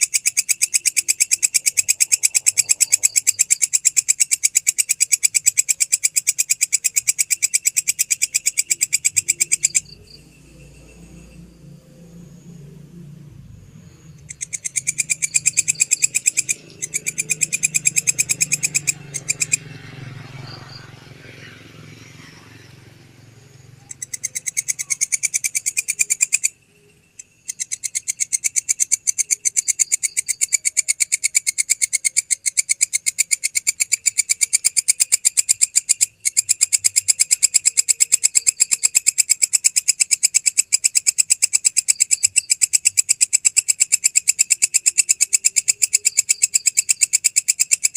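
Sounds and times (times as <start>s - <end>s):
grasshopper stridulating: 0.0s - 47.9s.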